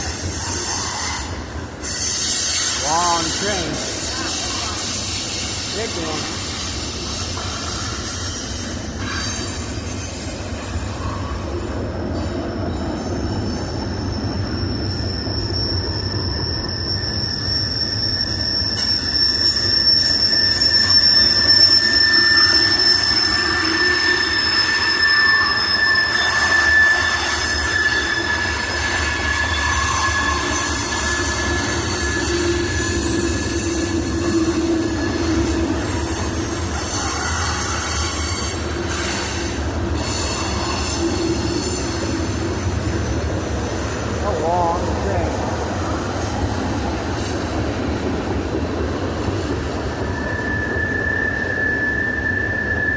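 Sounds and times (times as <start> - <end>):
high wheel squeal: 0.0 - 44.6, 45.7 - 52.9
train wheels rumbling on rail: 0.0 - 52.9.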